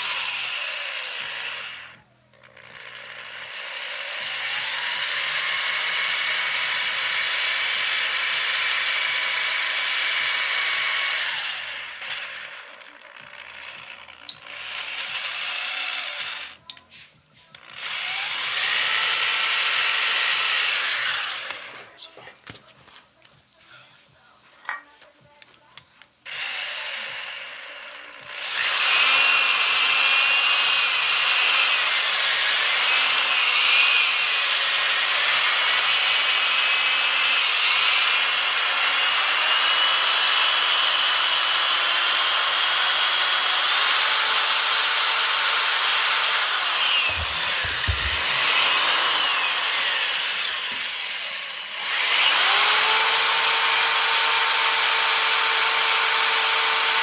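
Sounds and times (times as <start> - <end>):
power tool grinding steel: 0.0 - 21.9, 26.3 - 57.0.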